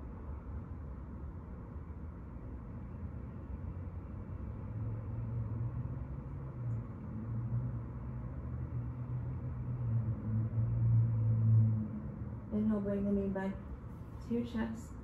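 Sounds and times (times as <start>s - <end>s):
low rumble of room noise: 0.0s - 15.0s.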